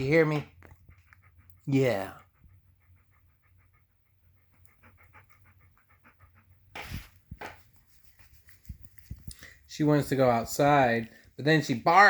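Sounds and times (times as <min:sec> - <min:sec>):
dog panting: 0:00.0 - 0:11.9.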